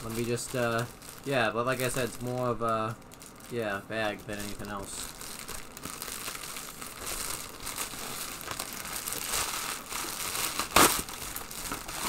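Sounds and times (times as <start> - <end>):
plastic bag crinkling and tearing: 0.0 - 12.0.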